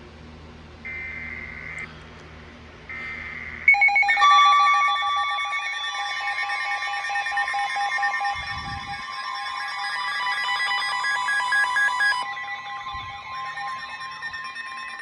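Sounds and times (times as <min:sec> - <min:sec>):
steady warning alarm tones: 0:00.9 - 0:01.9, 0:02.9 - 0:15.0
buzzing data burst: 0:02.9 - 0:15.0.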